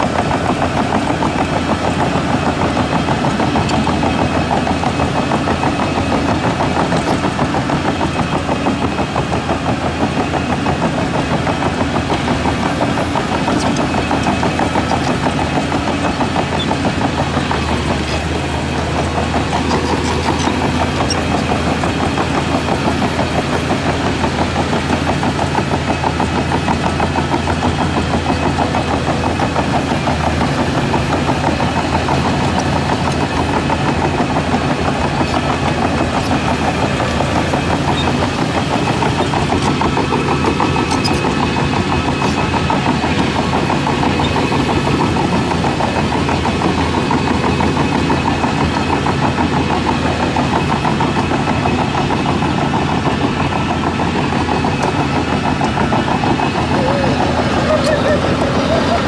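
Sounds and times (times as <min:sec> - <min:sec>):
deep engine drone: 0:00.0 - 0:59.0
diesel engine running: 0:00.0 - 0:59.0.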